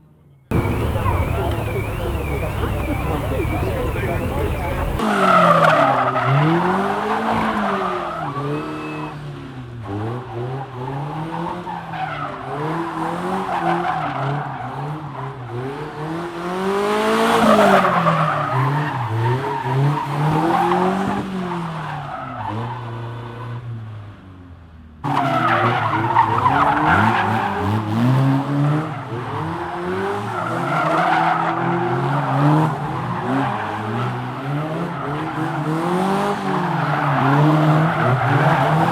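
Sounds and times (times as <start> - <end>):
rally car engines revving: 0.5 - 24.2, 25.0 - 38.9.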